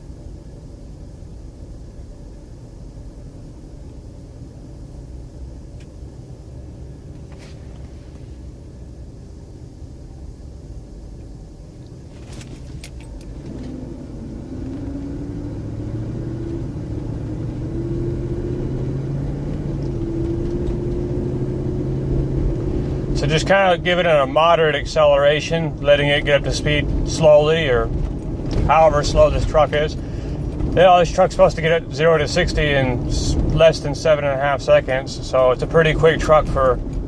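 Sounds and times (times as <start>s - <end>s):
car engine rumbling and accelerating: 0.0s - 37.0s.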